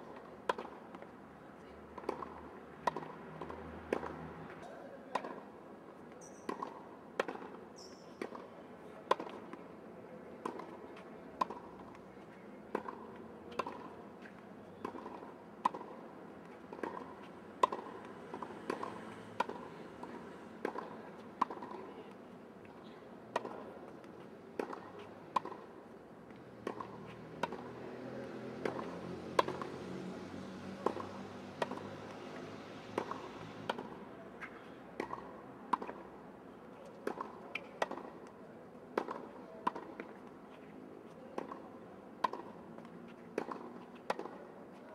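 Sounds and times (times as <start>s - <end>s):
tennis ball hit by rackets: 0.1s - 1.1s, 1.9s - 4.2s, 6.2s - 8.4s, 9.0s - 9.6s, 10.4s - 12.0s, 12.6s - 21.9s, 22.6s - 36.1s, 36.8s - 40.3s, 41.3s - 44.8s.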